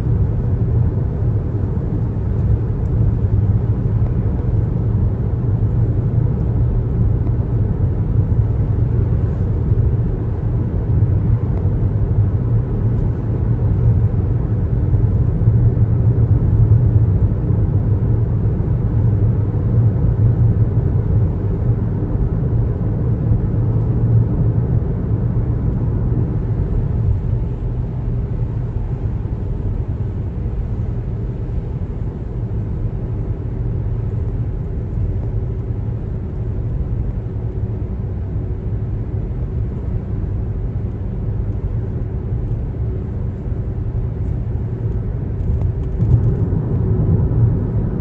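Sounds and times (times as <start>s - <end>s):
car road noise at highway speed: 0.0s - 48.0s.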